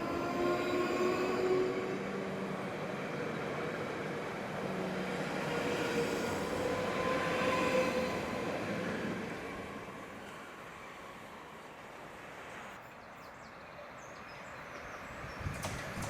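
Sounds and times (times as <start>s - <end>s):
electric train running on rails: 0.0s - 12.6s, 15.2s - 16.0s.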